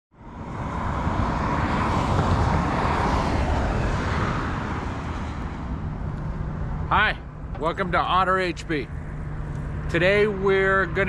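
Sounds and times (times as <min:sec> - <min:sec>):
outdoor rushing noise: 0:00.1 - 0:11.0.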